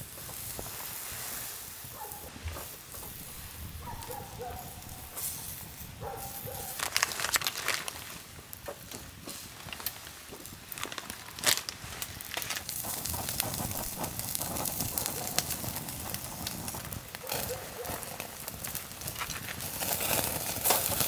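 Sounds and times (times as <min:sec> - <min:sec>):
beef sizzling on a grill: 0:00.0 - 0:21.0
campfire hissing and crackling: 0:00.0 - 0:21.0.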